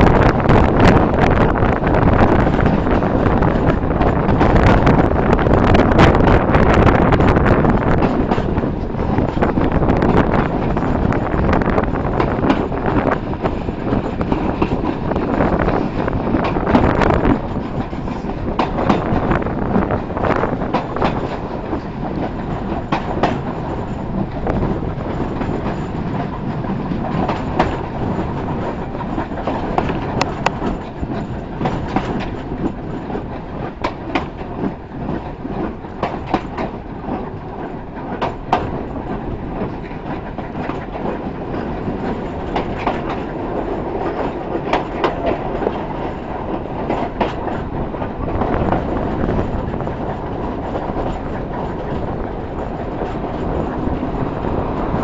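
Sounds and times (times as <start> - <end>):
clacks over rail joints: 0.0 - 55.0
train wheels rumbling on rails: 0.0 - 55.0.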